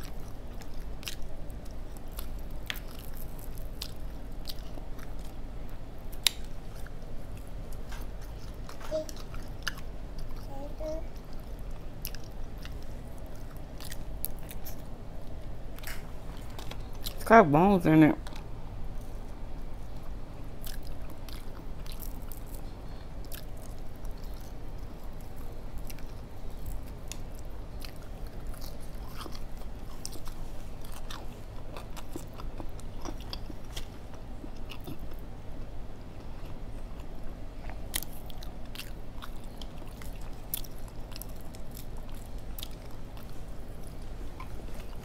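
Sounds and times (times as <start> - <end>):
chewing crisp fried fish: 0.0 - 17.2, 18.2 - 45.0.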